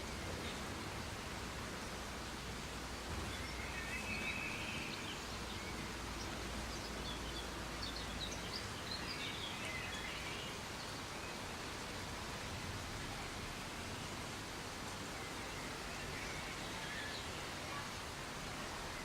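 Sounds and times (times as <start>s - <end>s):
soft rain hiss: 0.0s - 19.0s.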